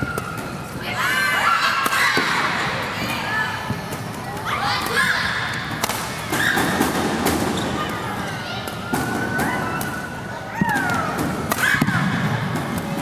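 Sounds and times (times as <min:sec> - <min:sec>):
hall and crowd noise: 0:00.0 - 0:13.0.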